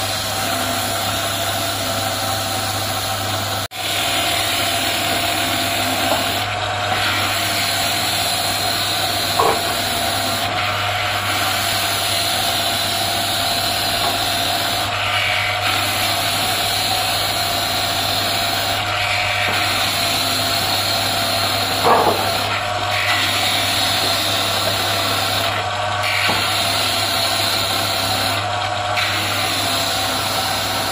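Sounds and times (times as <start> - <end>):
electric cutting machine running: 0.0 - 30.9
rotary cutter carving wood: 0.0 - 30.9.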